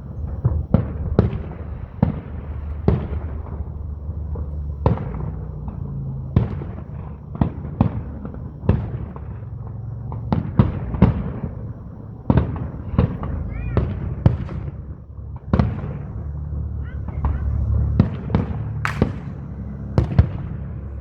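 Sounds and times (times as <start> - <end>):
fireworks banging: 0.0 - 21.0
low rumble: 0.0 - 21.0.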